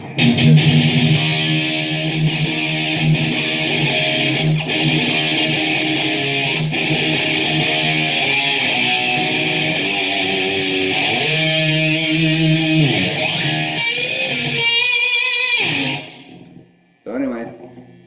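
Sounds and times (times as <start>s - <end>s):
distorted electric guitar riff: 0.0s - 16.9s.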